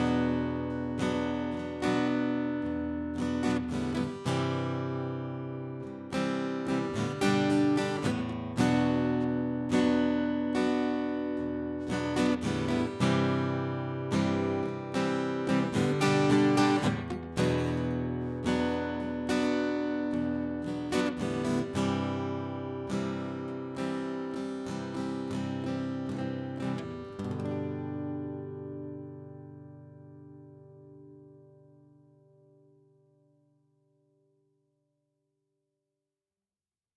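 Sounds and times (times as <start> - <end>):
acoustic guitar music: 0.0 - 34.4.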